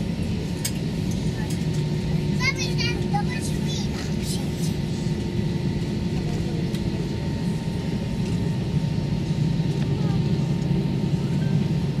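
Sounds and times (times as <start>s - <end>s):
aircraft cabin hum: 0.0s - 12.0s.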